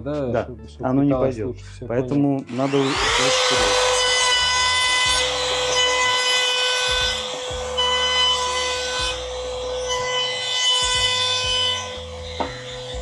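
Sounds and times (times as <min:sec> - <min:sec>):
router whining and cutting wood: 0:02.4 - 0:13.0.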